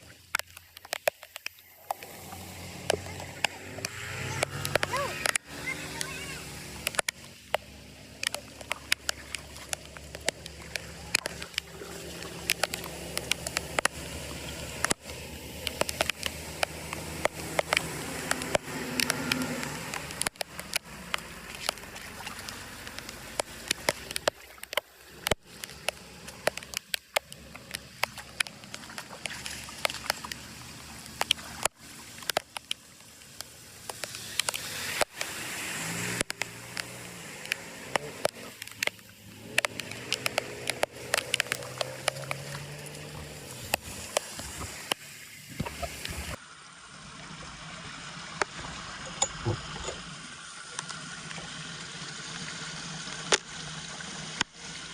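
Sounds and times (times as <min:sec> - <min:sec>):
sharp clicks and knocks: 0:00.0 - 0:35.3, 0:36.1 - 0:46.4, 0:48.4 - 0:50.1
floodwater rushing and gurgling: 0:00.0 - 0:54.9.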